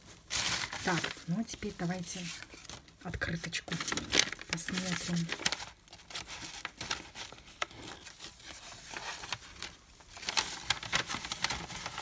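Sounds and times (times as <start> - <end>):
paper envelope rustling: 0.0 - 12.0.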